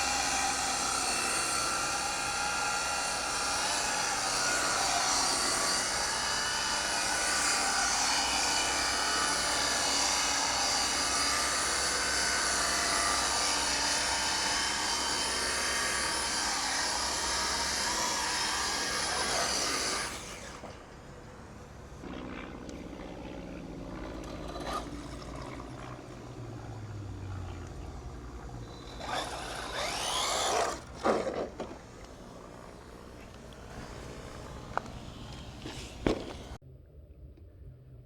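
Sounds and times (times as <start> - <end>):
high-pitched motor whine: 0.0 - 36.6.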